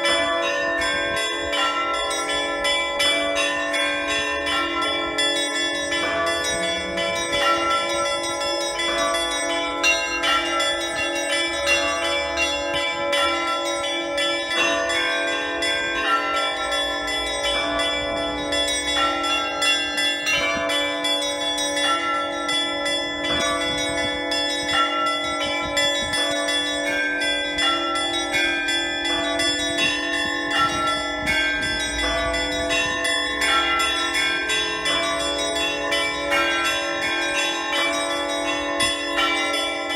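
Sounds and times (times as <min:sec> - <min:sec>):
low bell tone: 0:00.0 - 0:39.9
small church bells ringing: 0:00.0 - 0:39.9.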